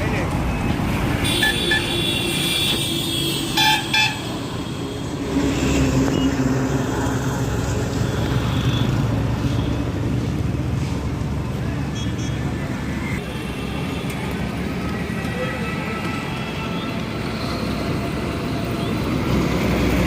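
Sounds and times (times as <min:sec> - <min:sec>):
heavy vehicle engines running: 0:00.0 - 0:20.0.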